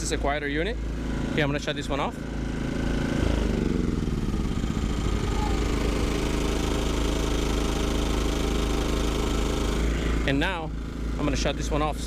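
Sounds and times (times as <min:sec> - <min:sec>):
generator engine winding down: 0:00.0 - 0:12.0
portable generator running: 0:00.0 - 0:12.0.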